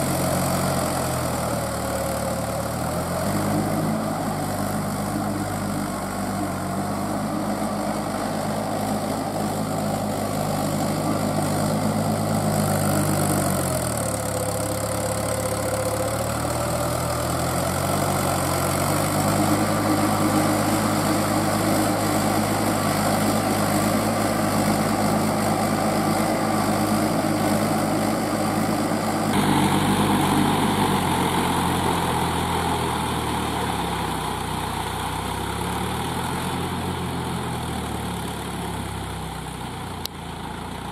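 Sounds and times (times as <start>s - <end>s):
wheels dragging through mud: 0.0s - 39.8s
tractor diesel engine running: 0.0s - 40.9s.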